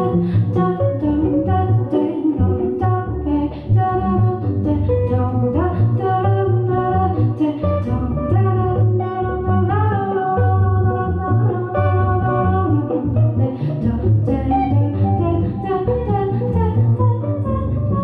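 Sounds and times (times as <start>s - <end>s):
electric guitar: 0.0s - 18.0s
plucked double bass: 0.0s - 18.0s
woman singing: 0.0s - 18.0s.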